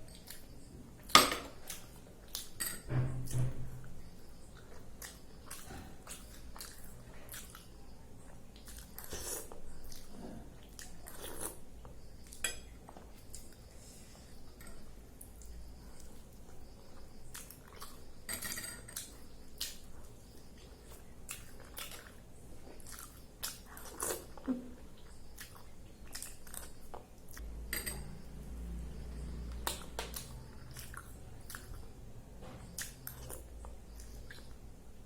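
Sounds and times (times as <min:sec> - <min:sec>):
person chewing food: 0:00.0 - 0:02.6, 0:04.1 - 0:18.2, 0:18.9 - 0:28.3, 0:29.1 - 0:34.9.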